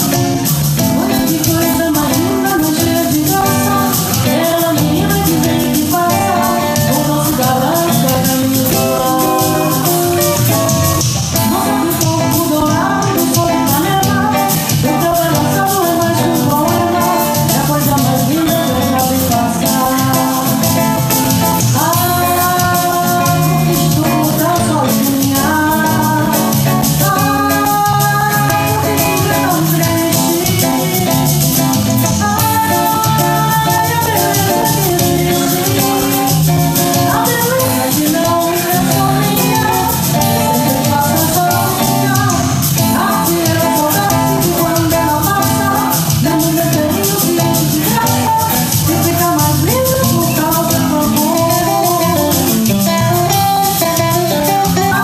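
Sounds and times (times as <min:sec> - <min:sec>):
drum kit: 0:00.0 - 0:55.0
electric bass: 0:00.0 - 0:55.0
electric guitar: 0:00.0 - 0:55.0
woman singing: 0:00.0 - 0:55.0.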